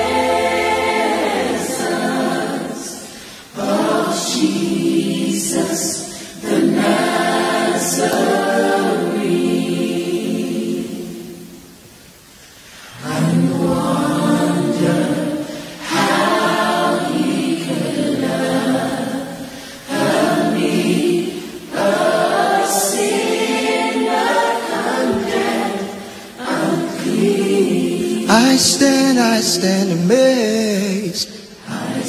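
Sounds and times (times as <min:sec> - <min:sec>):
women singing in harmony: 0:00.0 - 0:11.9, 0:12.7 - 0:29.0, 0:31.6 - 0:32.0.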